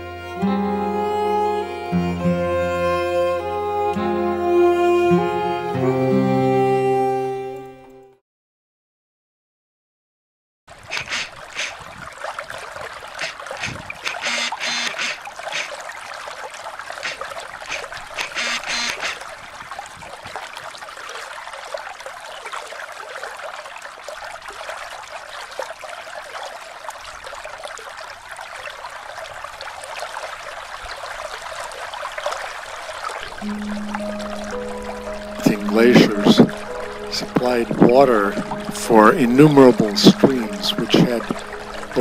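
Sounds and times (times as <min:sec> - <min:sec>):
stream water rushing: 0:00.0 - 0:07.8, 0:10.7 - 0:42.0.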